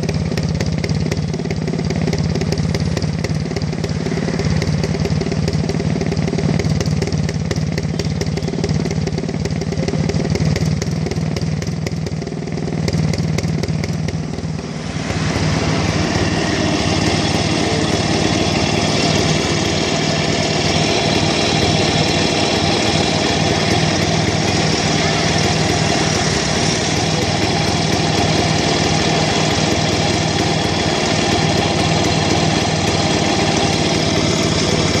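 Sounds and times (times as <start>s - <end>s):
two-stroke engine running: 0.0s - 35.0s.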